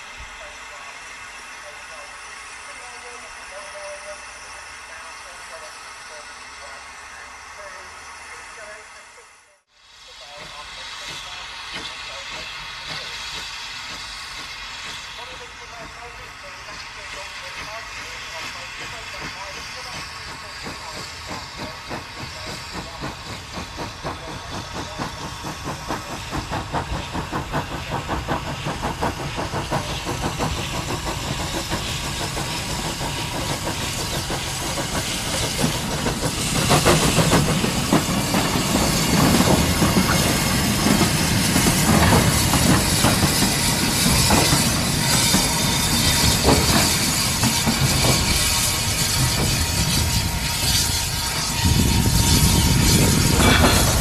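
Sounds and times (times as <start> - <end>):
steam hissing: 0.0 - 54.0
steam locomotive exhaust chuffs: 0.0 - 54.0.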